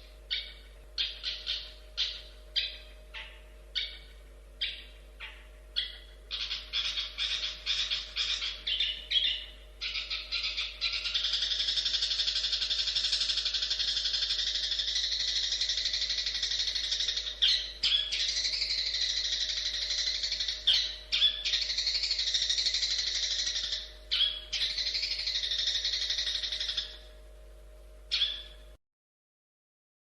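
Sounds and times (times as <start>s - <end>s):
shrike singing chattering song: 0.0s - 28.8s.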